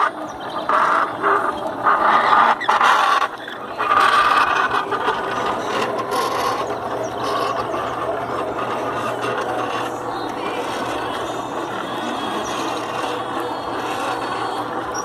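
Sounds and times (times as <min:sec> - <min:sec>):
electric motor humming: 0:00.0 - 0:15.0
mill gear rattle: 0:00.0 - 0:15.0.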